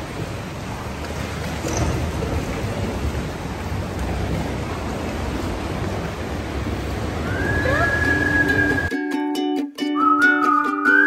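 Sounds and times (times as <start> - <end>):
sea water surging in cave: 0.0 - 8.9.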